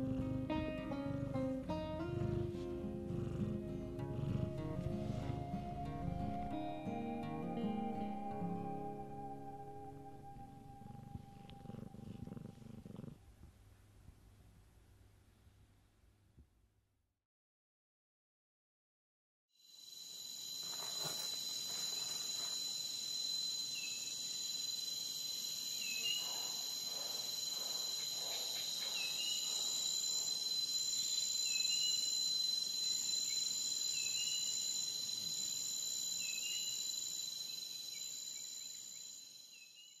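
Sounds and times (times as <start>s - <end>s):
insects trilling: 0.0s - 13.1s, 19.7s - 40.0s.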